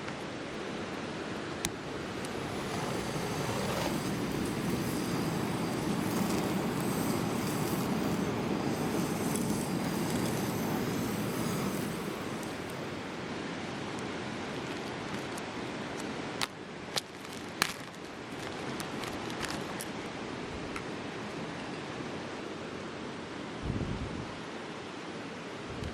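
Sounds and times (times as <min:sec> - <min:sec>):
river water flowing: 0:00.2 - 0:23.5.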